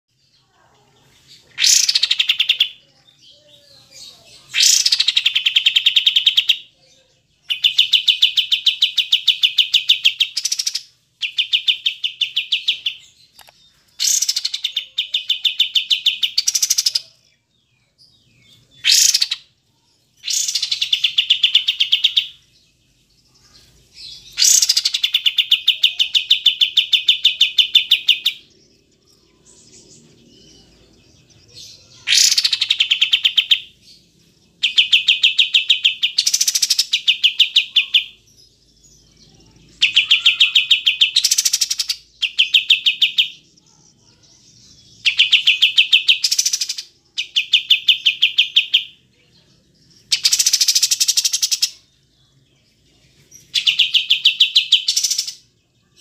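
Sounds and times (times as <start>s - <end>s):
bulbul singing chattering trills: 0.1s - 56.0s.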